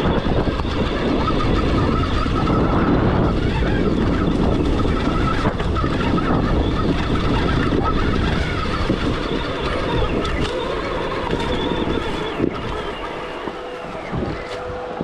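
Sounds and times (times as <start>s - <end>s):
electric motor whine: 0.0s - 15.0s
tyres rumbling on rough ground: 0.0s - 15.0s
wind rushing: 0.0s - 15.0s.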